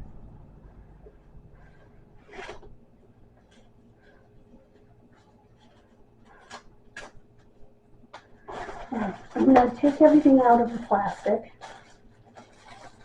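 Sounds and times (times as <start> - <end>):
packaging rustling and scraping: 1.8 - 2.7, 3.3 - 13.0.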